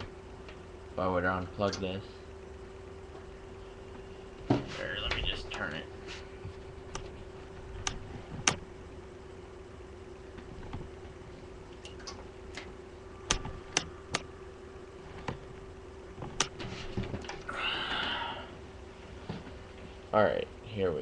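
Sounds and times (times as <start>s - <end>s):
computer fan hum: 0.0s - 21.0s.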